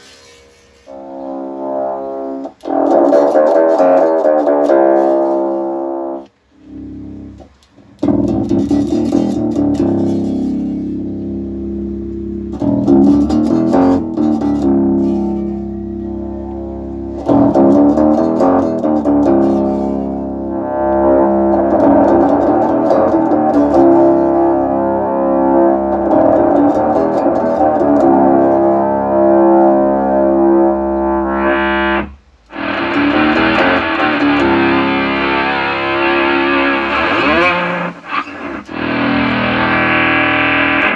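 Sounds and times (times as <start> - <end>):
synth pedal tones: 0.5 - 40.9.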